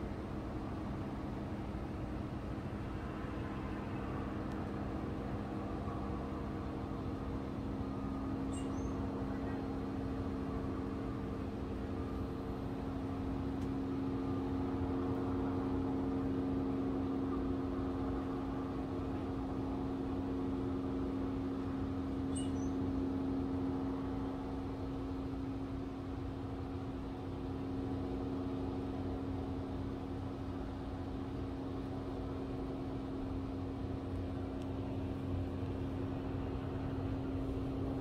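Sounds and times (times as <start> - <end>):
constant mechanical hum: 0.0 - 38.0.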